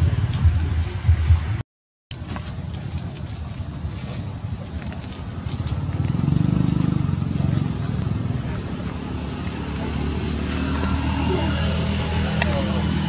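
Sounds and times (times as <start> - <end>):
insect hiss: 0.0 - 13.0
dry leaves ticking: 2.2 - 13.0
low droning hum: 2.2 - 13.0.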